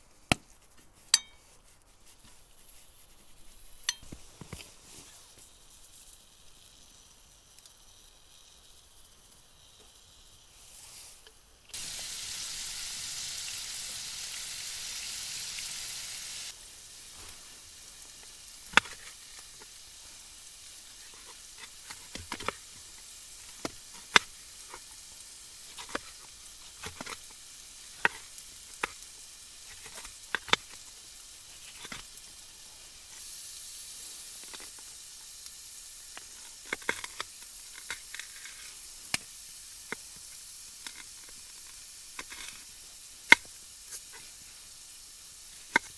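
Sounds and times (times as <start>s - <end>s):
food sizzling in a pan: 3.8s - 45.9s.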